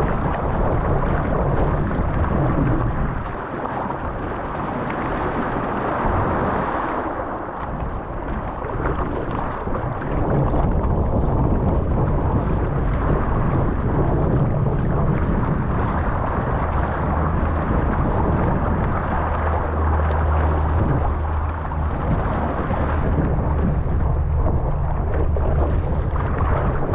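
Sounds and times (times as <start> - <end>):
rushing and splashing water: 0.0 - 26.9
wind buffeting microphone: 0.0 - 26.9.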